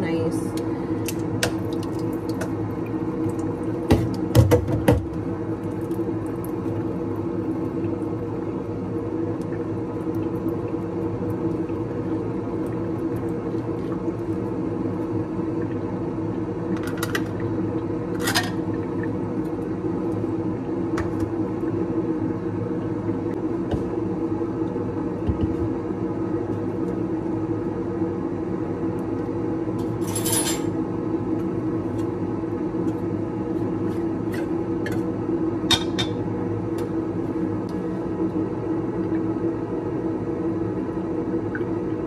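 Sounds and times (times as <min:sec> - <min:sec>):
appliance mechanical hum: 0:00.0 - 0:42.0.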